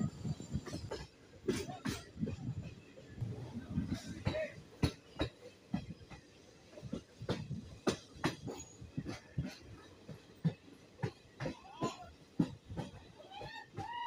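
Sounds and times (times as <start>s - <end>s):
train wheels clacking: 0.0s - 14.0s.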